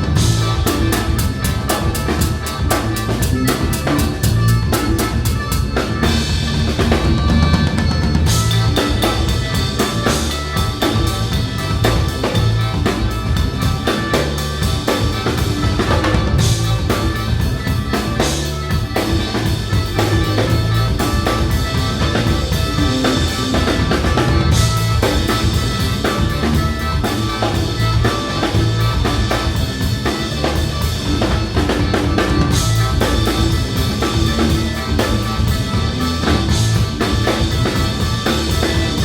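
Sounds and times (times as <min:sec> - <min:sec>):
drum kit beat: 0:00.0 - 0:39.0
live band music: 0:00.0 - 0:39.0.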